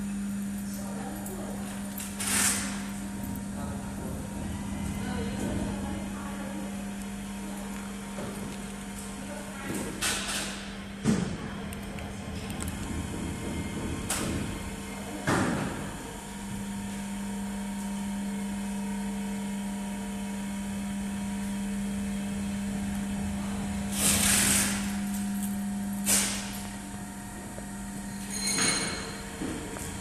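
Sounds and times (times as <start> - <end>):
linear actuator motors humming: 0.0 - 30.0.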